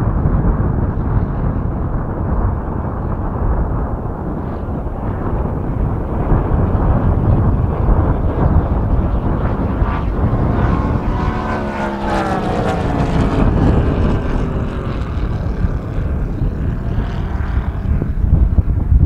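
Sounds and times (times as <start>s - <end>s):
model plane engine drone: 0.0s - 19.0s
wind noise on microphone: 0.0s - 19.0s.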